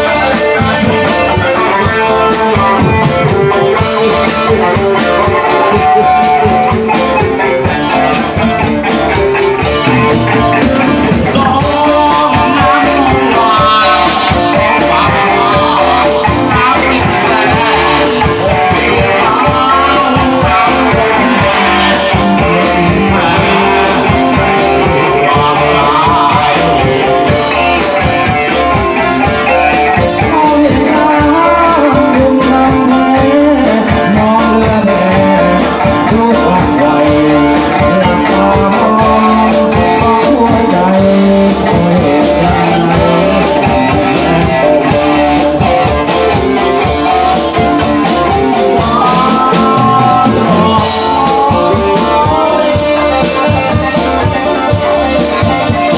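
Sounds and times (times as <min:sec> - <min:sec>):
band music with guitar: 0:00.0 - 0:55.9.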